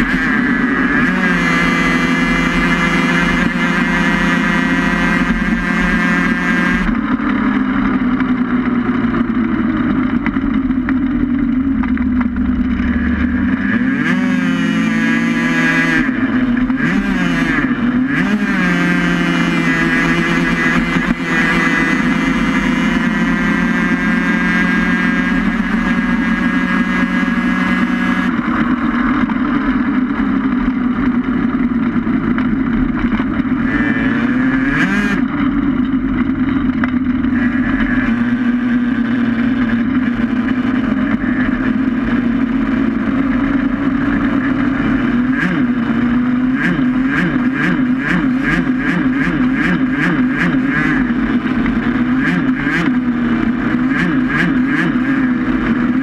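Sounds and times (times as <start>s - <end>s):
race vehicle engine drone: 0.0s - 56.0s
road and wind noise: 0.0s - 56.0s.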